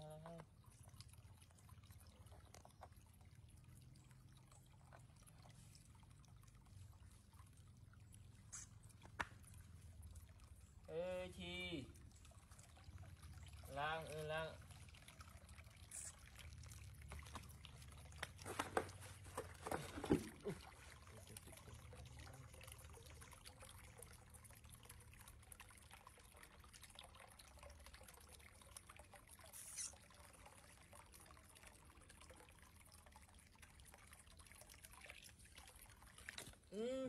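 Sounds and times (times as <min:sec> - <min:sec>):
water trickling in a plastic tub: 0:00.0 - 0:37.0.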